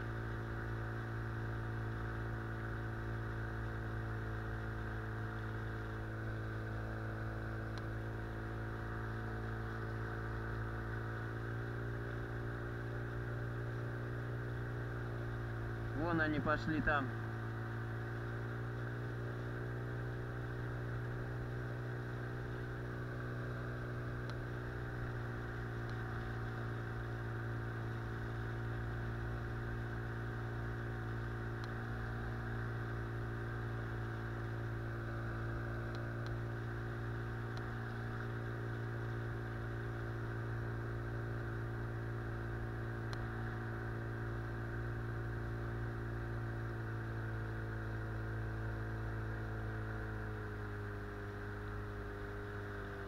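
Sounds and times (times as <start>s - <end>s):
outboard motor running: 0.0s - 53.0s.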